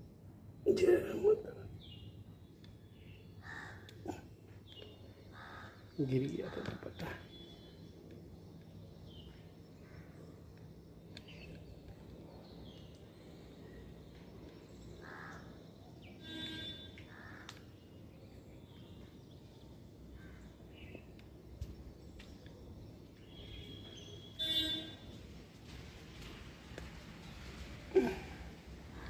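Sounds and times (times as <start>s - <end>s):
faint outdoor background: 0.0s - 29.0s.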